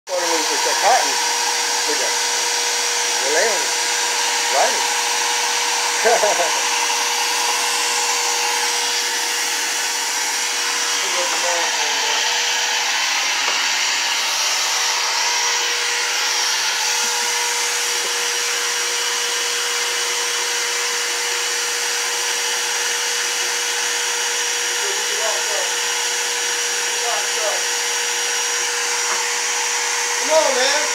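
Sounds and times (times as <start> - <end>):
shop vacuum running: 0.1 - 30.9.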